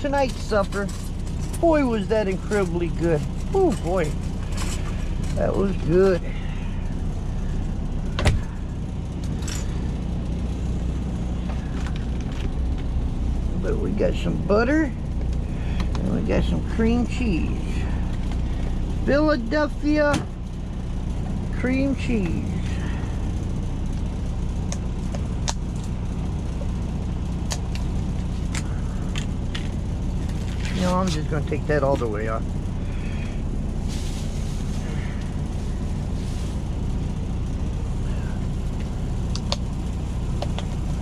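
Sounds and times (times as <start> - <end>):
truck diesel engine idling: 0.0 - 41.0.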